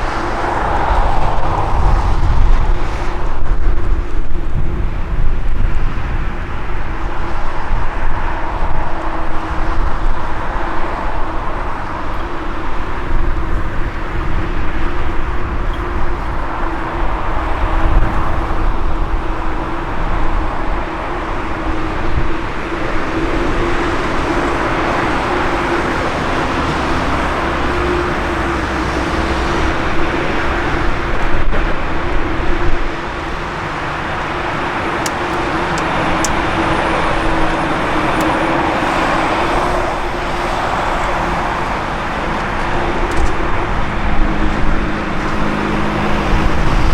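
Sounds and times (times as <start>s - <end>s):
jet engines humming: 0.0s - 46.9s
wind buffeting microphone: 0.0s - 46.9s.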